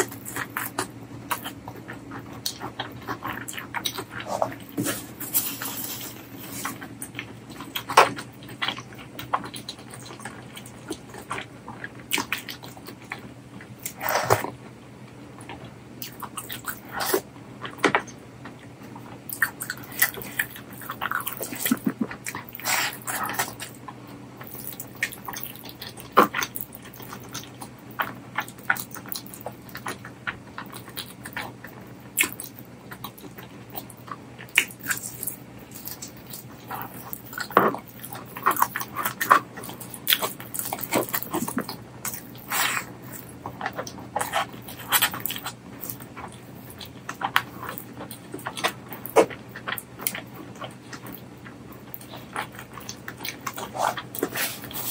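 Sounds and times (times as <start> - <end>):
close chewing and lip smacks: 0.0 - 54.9.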